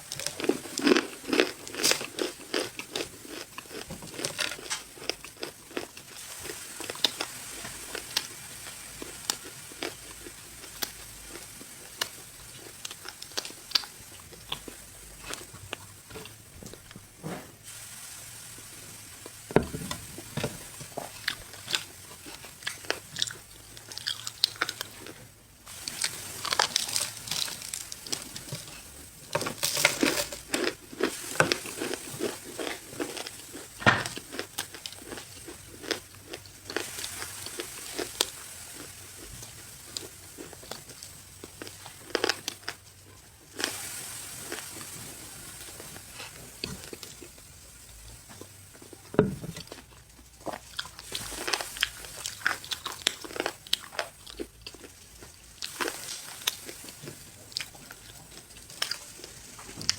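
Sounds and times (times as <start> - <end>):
person chewing crunchy snack: 0.0 - 17.1, 19.6 - 47.4, 48.4 - 59.9.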